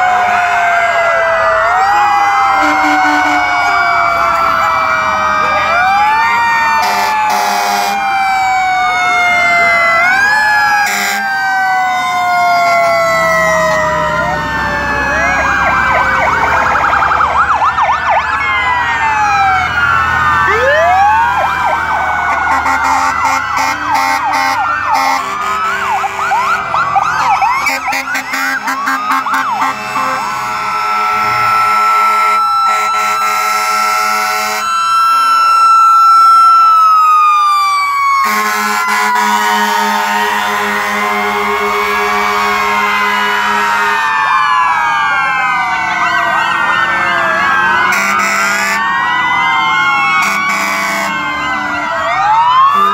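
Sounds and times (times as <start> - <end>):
fire truck sirens wailing: 0.0 - 52.9.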